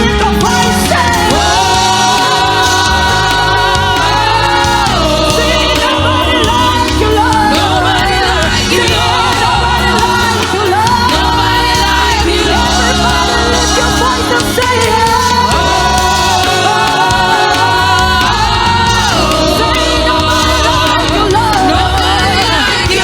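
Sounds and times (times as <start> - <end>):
band accompaniment: 0.0 - 23.0
choir singing gospel song: 0.0 - 23.0.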